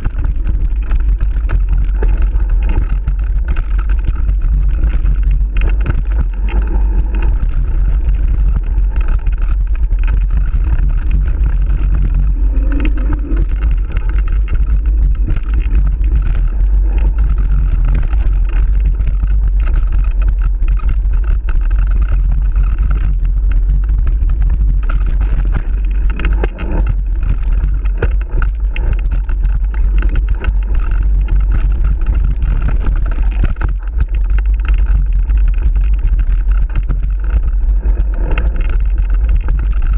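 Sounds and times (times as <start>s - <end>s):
bike rattling over bumpy trail: 0.0s - 39.9s
wind rumble on microphone: 0.0s - 39.9s.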